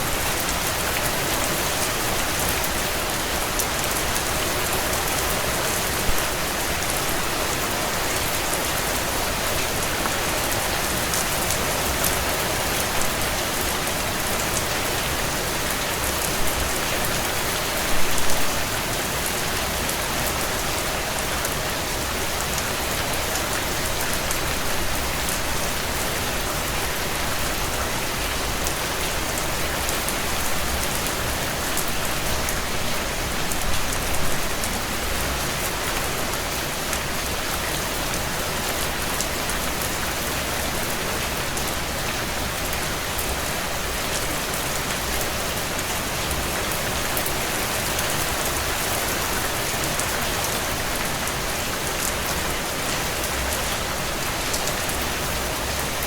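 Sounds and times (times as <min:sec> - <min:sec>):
heavy rain on a tin roof: 0:00.0 - 0:56.0.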